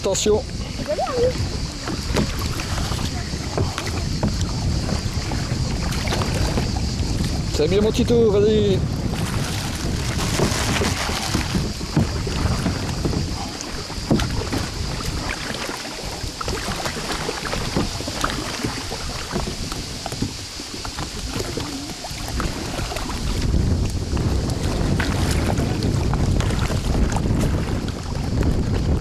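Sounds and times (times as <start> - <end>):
paddles splashing in water: 0.0 - 29.0
wind rumbling on microphone: 0.0 - 29.0.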